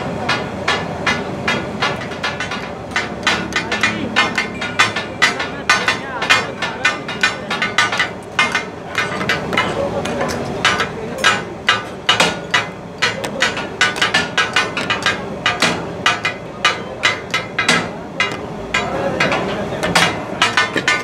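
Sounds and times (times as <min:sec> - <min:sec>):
metal spatulas clattering on griddle: 0:02.0 - 0:21.0.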